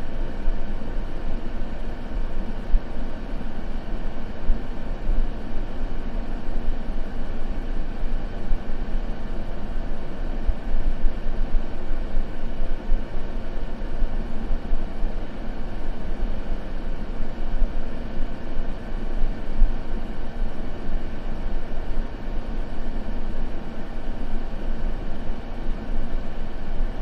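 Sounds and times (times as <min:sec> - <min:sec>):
deep white noise: 0:00.0 - 0:27.0.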